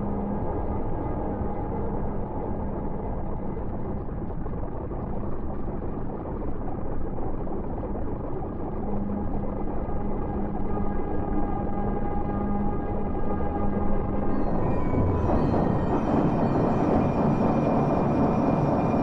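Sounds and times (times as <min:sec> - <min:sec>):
dark ambient drone music: 0:00.0 - 0:07.0, 0:07.6 - 0:19.0.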